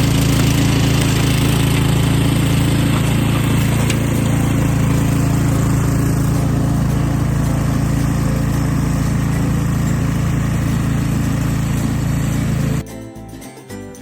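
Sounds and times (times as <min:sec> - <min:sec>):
garden tiller engine running: 0:00.0 - 0:12.8.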